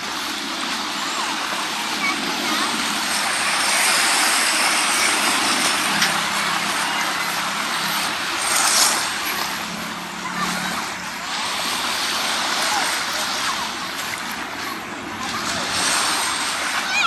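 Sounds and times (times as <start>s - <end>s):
waves washing on beach: 0.0s - 17.0s.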